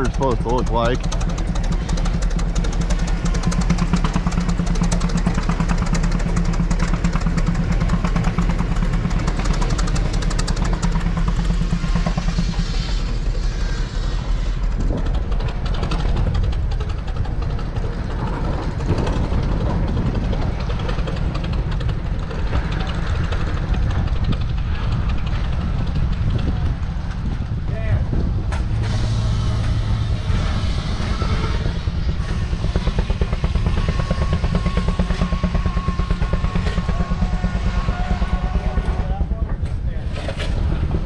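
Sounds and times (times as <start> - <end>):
engines rumbling: 0.0 - 41.0
steady low tone: 0.0 - 41.0.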